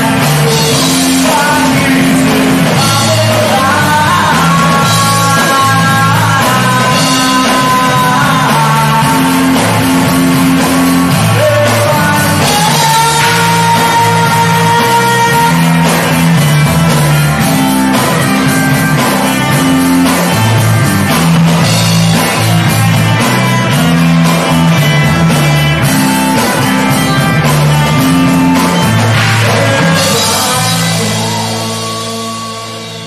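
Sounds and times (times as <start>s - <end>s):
drum kit: 0.0s - 33.0s
rock band playing live: 0.0s - 33.0s.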